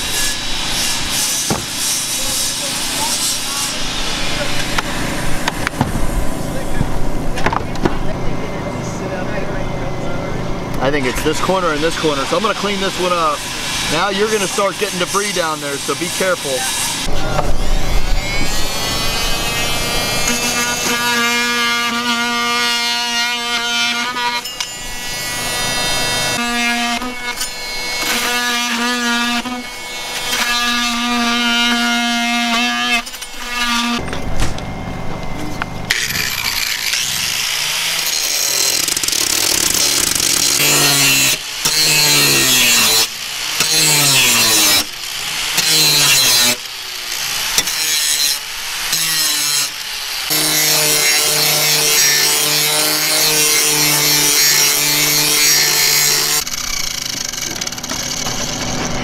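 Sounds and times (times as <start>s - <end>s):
power tool cutting disc whine: 0.0s - 6.8s, 10.6s - 59.0s.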